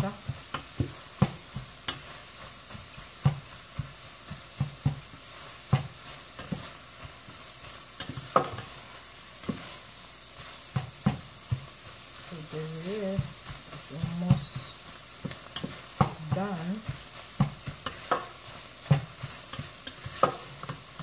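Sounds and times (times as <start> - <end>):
food sizzling in a pan: 0.0 - 21.0
spatula scraping and tapping pan: 0.0 - 21.0.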